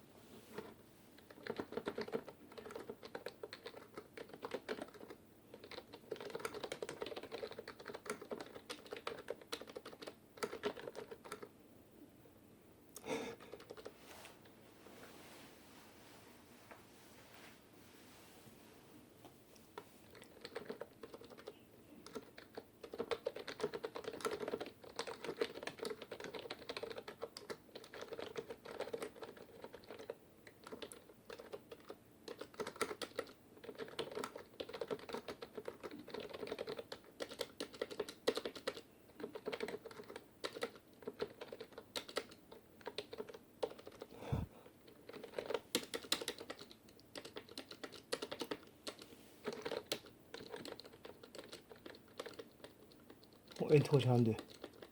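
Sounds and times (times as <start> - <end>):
keyboard key clicks typing: 0.6 - 11.5, 20.1 - 44.1, 45.1 - 54.9.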